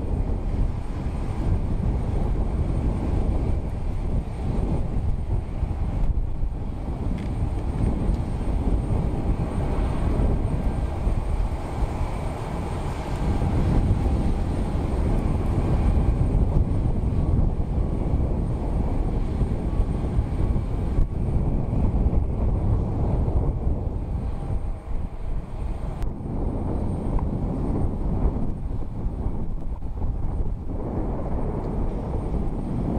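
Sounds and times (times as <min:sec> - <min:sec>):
jet engines rumbling: 0:00.0 - 0:32.9.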